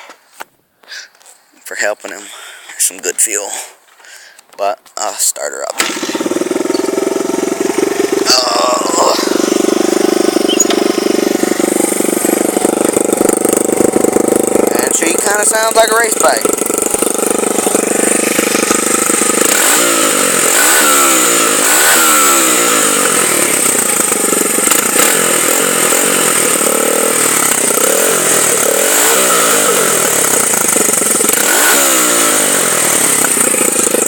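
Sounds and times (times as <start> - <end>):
motorcycle engine revving: 5.7 - 34.0.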